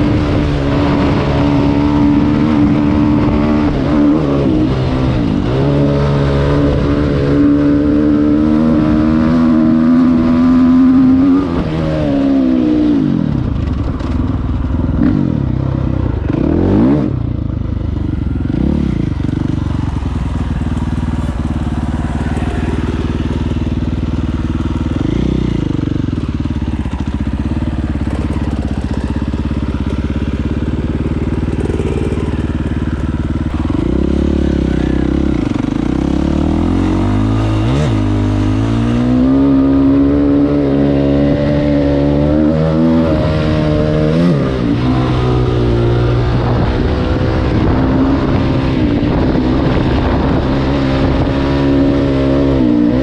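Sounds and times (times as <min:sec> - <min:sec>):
dirt bike engine revving: 0:00.0 - 0:14.2, 0:14.8 - 0:53.0.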